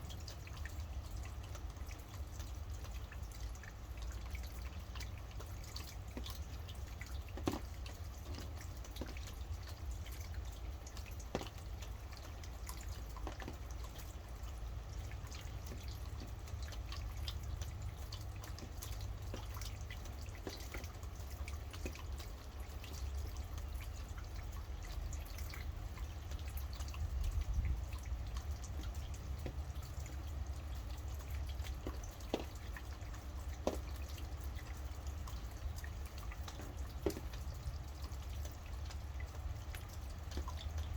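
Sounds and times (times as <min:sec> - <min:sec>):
rain falling: 0:00.0 - 0:40.9
raindrops tapping: 0:00.0 - 0:40.9.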